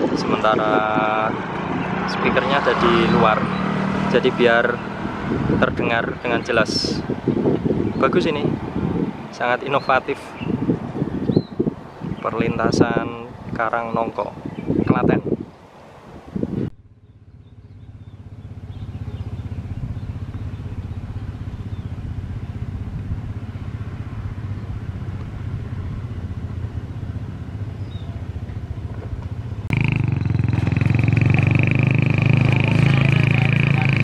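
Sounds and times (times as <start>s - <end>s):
motorcycle engines running: 0.0s - 13.0s, 16.8s - 34.0s.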